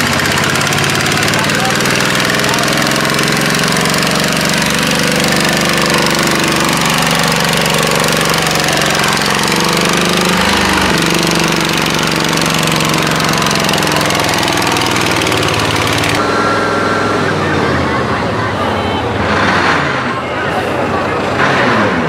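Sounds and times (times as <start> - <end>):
tractor engine running hard: 0.0 - 22.0.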